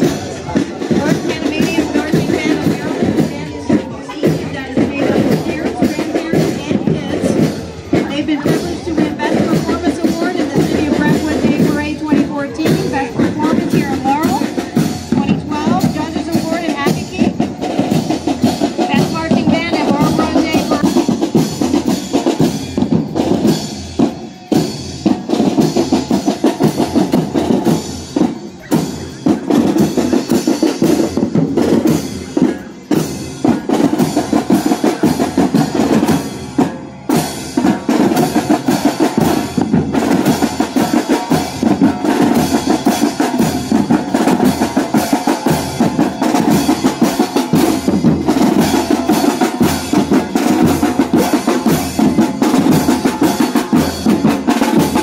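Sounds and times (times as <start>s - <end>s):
bass drum: 0.0s - 55.0s
snare drum marching beat: 0.0s - 55.0s.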